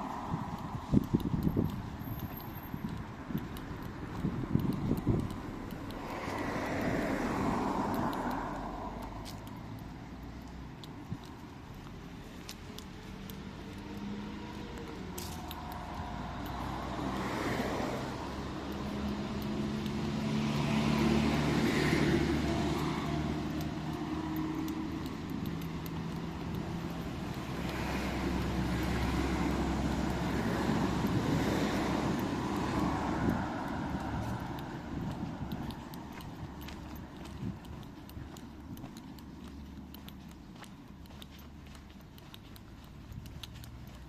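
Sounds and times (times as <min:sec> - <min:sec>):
vehicle engines passing: 0:00.0 - 0:44.0.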